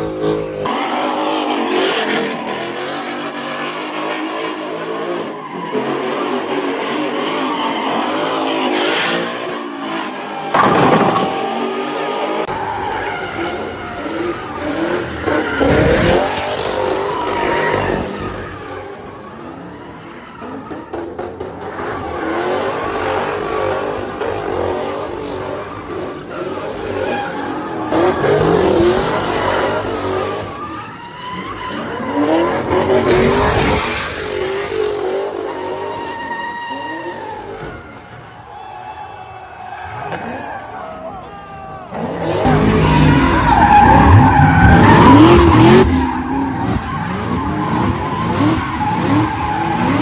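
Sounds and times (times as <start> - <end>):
car engines revving: 0.0 - 39.0, 39.6 - 50.0
tyres squealing and skidding: 0.0 - 50.0.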